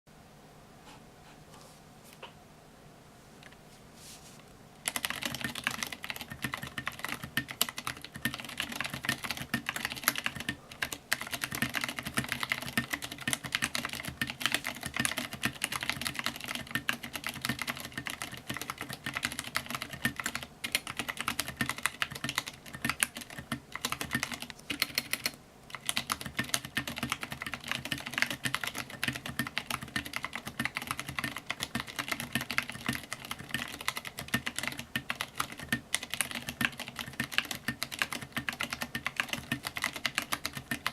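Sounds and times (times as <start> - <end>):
mechanical keyboard typing: 4.8 - 40.9.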